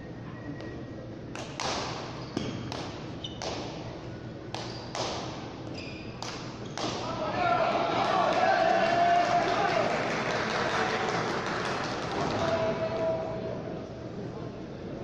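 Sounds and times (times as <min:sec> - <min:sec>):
murmur of hall: 0:00.0 - 0:15.0.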